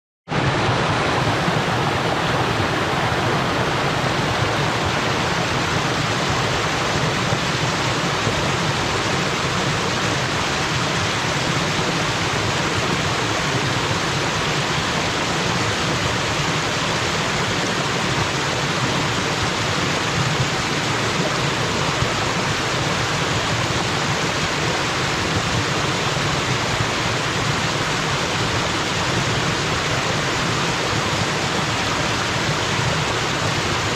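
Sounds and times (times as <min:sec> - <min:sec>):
low water rumble: 0:00.3 - 0:33.9
waterfall pouring and splashing: 0:00.3 - 0:33.9.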